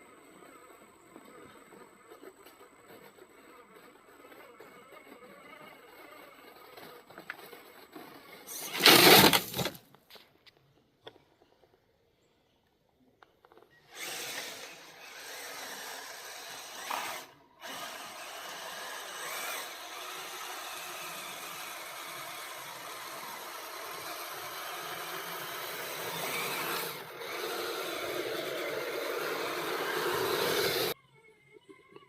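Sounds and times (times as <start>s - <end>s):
electric motor and gears whining: 0.0s - 9.8s, 13.8s - 31.0s.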